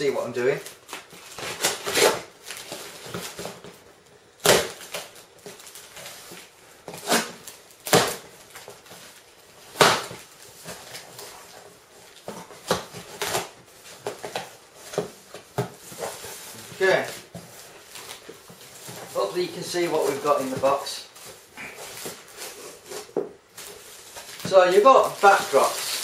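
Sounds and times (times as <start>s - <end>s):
cardboard rustling and handling: 0.3s - 26.0s
cardboard flaps tearing: 0.6s - 3.7s, 4.4s - 26.0s
packing tape ripping: 0.6s - 3.7s, 4.4s - 20.5s, 21.1s - 26.0s.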